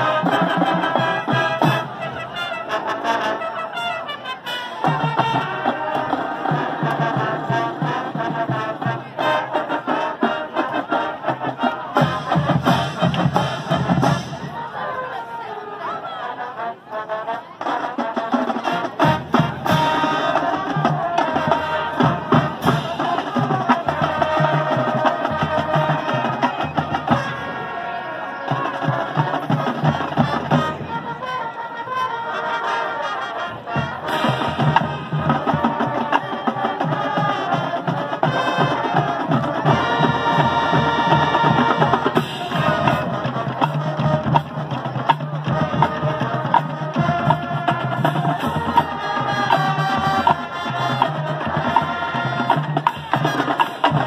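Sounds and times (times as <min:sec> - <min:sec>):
marching drums and percussion: 0:00.0 - 0:03.3, 0:04.7 - 0:15.1, 0:17.6 - 0:27.8, 0:28.5 - 0:32.0, 0:33.5 - 0:54.0
marching band brass: 0:00.0 - 0:54.0.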